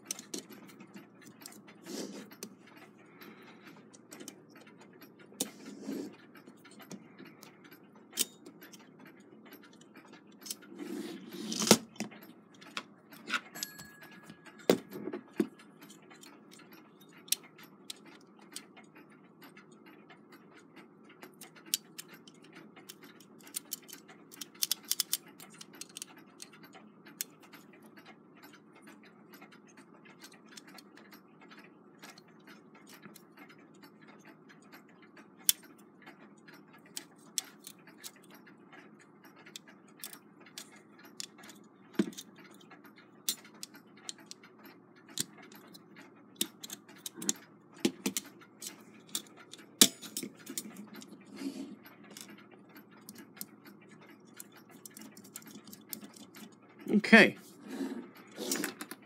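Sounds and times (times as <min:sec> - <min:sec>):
metallic clicks and taps: 0:00.0 - 0:10.9, 0:11.6 - 0:59.0
clock ticking: 0:00.0 - 0:11.0, 0:11.8 - 0:58.4.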